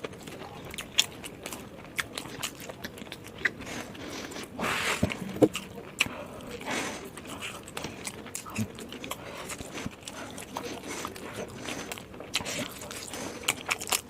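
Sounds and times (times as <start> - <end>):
person chewing and smacking: 0.0 - 14.0.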